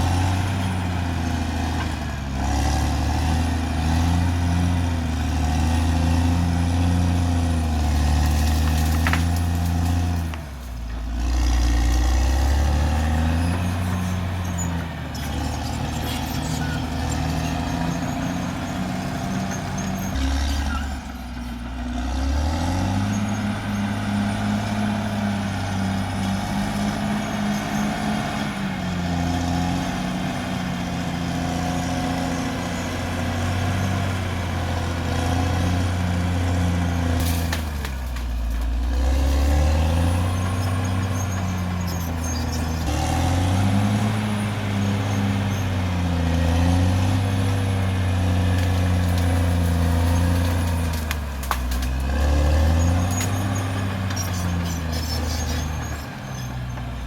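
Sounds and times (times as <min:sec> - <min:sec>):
bulldozer diesel engine under load: 0:00.0 - 0:57.0.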